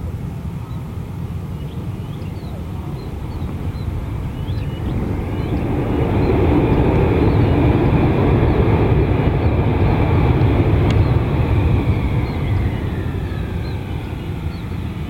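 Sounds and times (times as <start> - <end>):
jet engines rumbling: 0.0 - 15.0
jet whine falling in pitch: 0.0 - 15.0.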